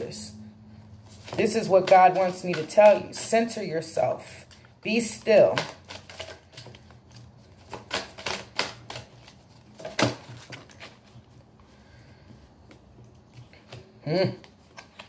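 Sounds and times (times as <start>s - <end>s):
cards being shuffled: 1.0s - 15.0s.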